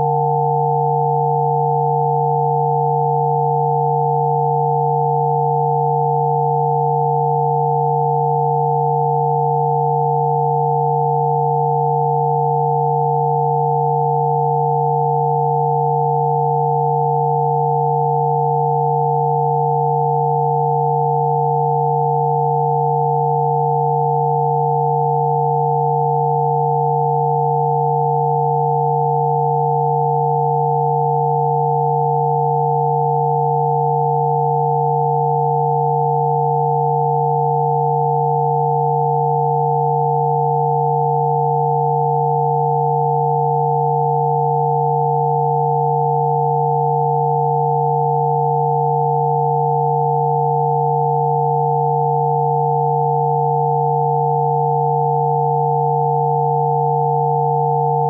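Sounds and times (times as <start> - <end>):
steady electronic sine tones: 0.0 - 58.0.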